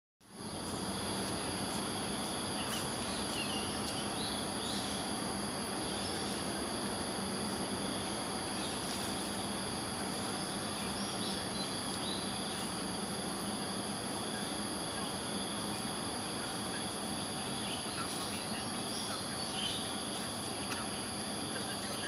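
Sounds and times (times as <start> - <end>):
insect chorus buzzing: 0.2 - 22.0
low background hum: 0.2 - 22.0.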